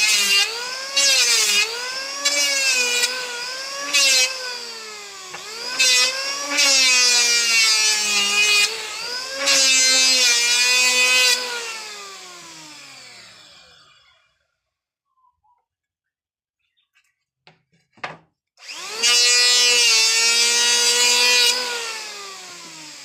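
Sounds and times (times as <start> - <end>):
electric planer motor whine: 0.0 - 14.4, 18.6 - 23.0
planer blades cutting wood: 0.0 - 14.4, 18.6 - 23.0.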